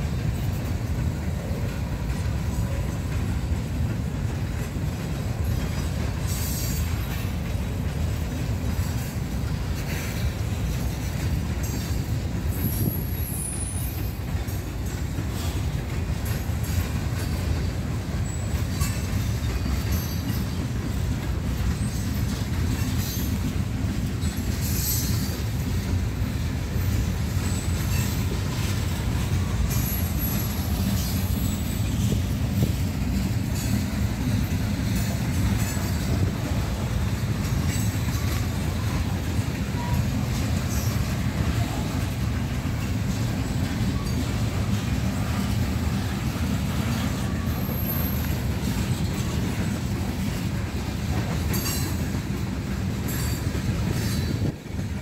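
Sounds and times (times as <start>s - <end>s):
rumble of wheels on rail: 0.0s - 55.0s.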